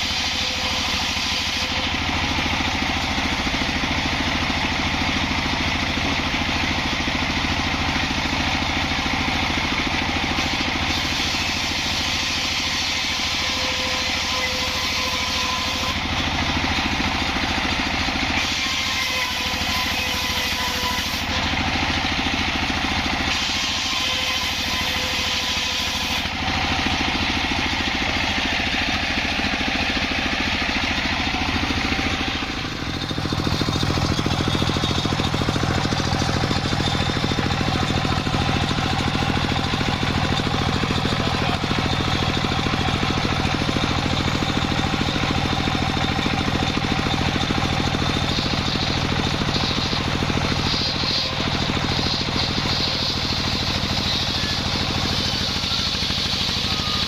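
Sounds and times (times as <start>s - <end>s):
saw blade cutting wood: 0.0s - 57.0s
sawmill engine running: 0.0s - 57.0s.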